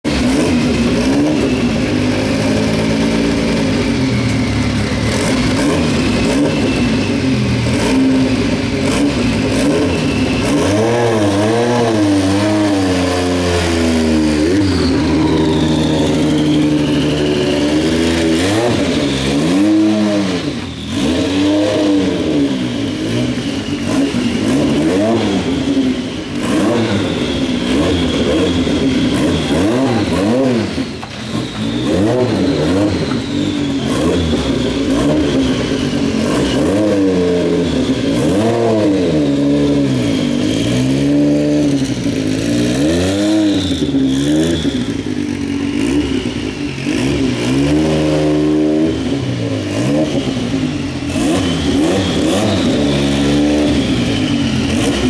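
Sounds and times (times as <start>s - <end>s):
race car engine idling and revving: 0.0s - 55.0s.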